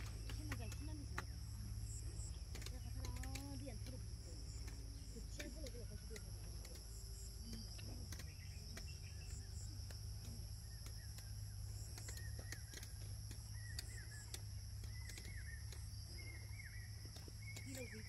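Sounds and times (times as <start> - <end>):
crickets droning: 0.0 - 18.0.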